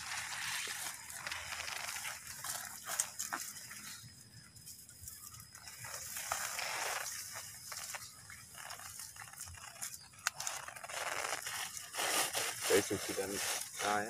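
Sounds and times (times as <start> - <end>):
plastic sack rustling and scraping: 0.0 - 4.3, 5.0 - 14.0.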